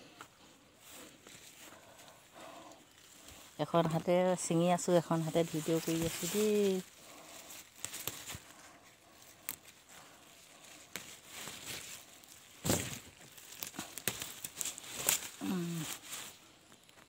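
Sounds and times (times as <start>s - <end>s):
leaves rustling and crackling: 0.7s - 17.0s.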